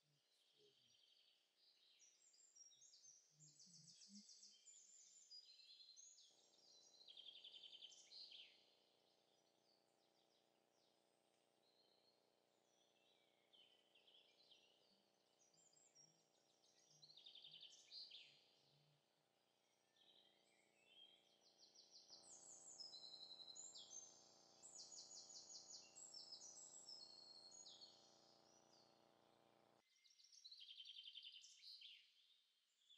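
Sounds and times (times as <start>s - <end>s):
faint songbirds singing: 0.0s - 32.9s.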